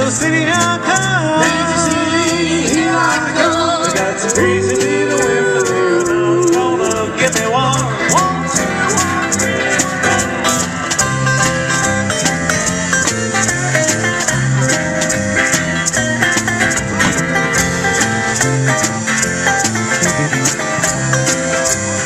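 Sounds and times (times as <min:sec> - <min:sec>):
guitar: 0:00.0 - 0:22.0
live blues band playing: 0:00.0 - 0:22.0.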